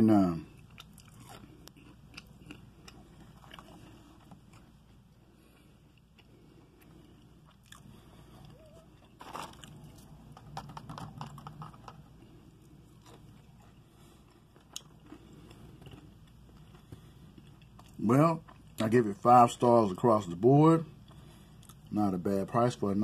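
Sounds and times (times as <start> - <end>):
person chewing crunchy food: 0.4 - 18.9, 21.0 - 21.9.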